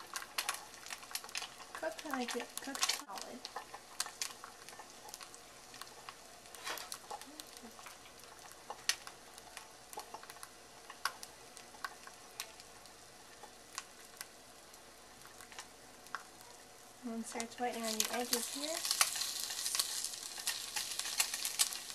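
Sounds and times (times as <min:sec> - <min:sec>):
egg sizzling in oil: 0:00.0 - 0:21.9.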